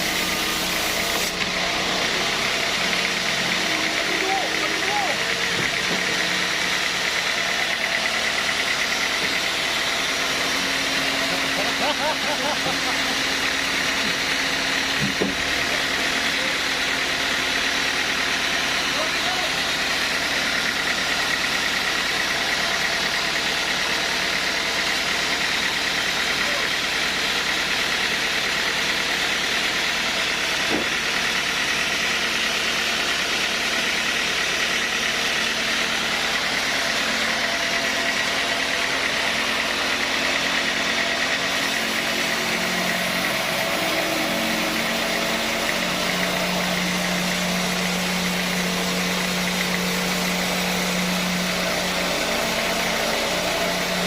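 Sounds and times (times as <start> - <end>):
sawmill machinery droning and hissing: 0.0 - 54.0.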